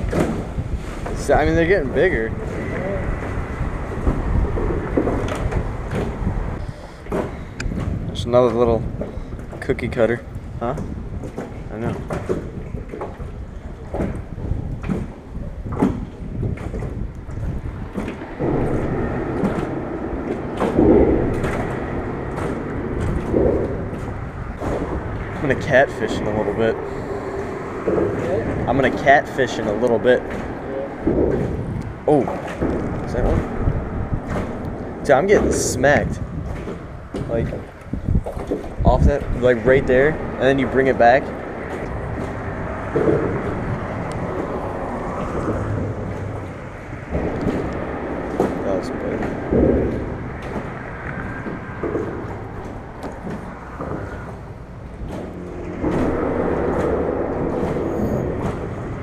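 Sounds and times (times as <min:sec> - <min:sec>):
traffic rumble on bridge overhead: 0:00.0 - 0:59.0.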